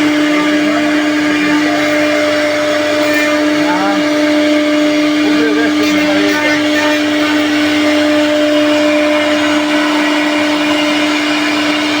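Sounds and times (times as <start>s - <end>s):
cnc machine motor whine: 0.0s - 12.0s.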